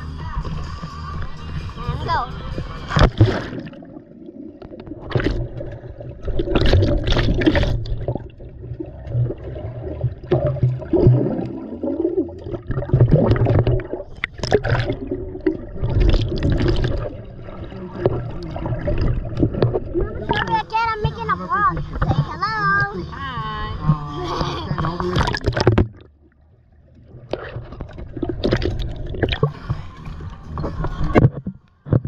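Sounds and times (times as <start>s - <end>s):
bubbling and splashing: 0.0s - 32.0s
muffled underwater gurgle: 0.0s - 32.0s.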